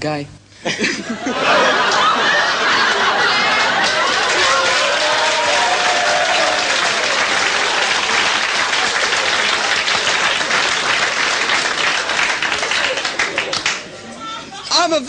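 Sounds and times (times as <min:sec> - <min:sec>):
audience laughing and whooping: 0:00.7 - 0:14.4
audience applauding: 0:01.5 - 0:14.0.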